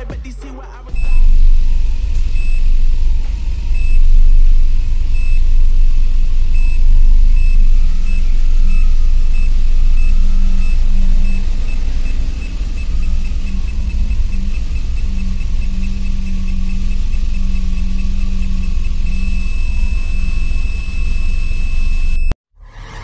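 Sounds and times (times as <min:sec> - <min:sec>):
car engine rumbling: 0:00.0 - 0:22.2
parking sensor buzzer beeping: 0:01.0 - 0:22.4.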